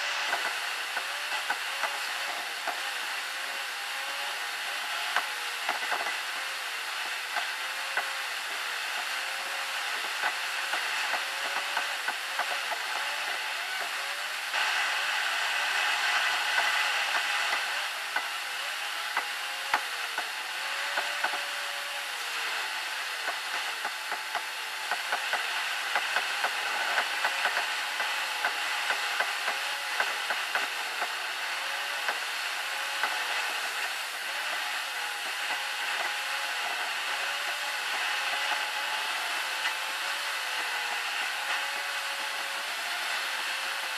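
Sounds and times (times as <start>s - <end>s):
car road noise hiss: 0.0s - 43.9s.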